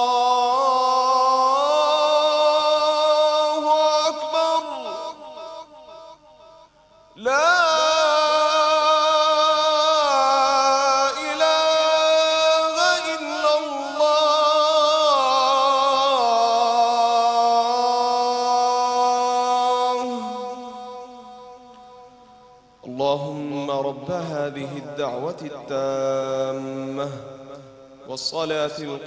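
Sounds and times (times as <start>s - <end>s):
man chanting call to prayer: 0.0s - 29.0s.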